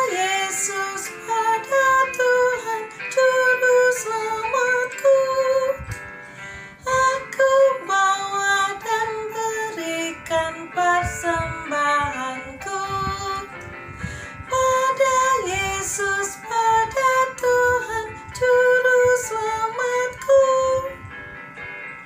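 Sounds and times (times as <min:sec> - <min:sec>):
woman singing a hymn: 0:00.0 - 0:06.0, 0:06.8 - 0:21.2
instrumental backing music: 0:00.0 - 0:22.0.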